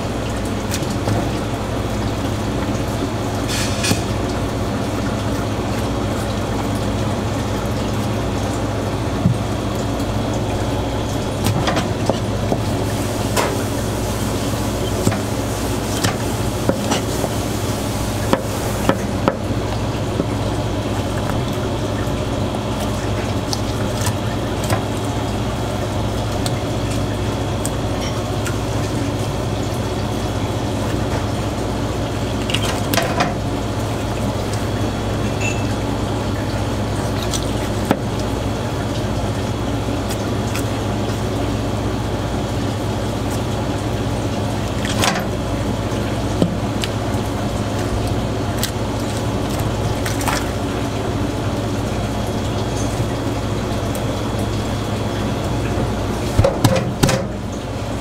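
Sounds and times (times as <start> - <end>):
steady low hum: 0.0 - 58.0
wet sounds: 0.0 - 58.0.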